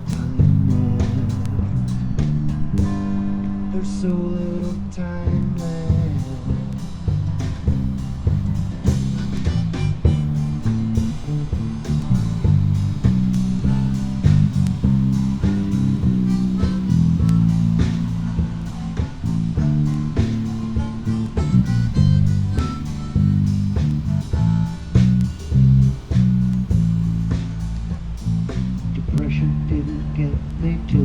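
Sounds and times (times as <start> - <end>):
drum hits: 0.0 - 3.2, 5.3 - 29.3
blues rock band playing: 0.0 - 29.3
bass guitar line: 0.0 - 31.0.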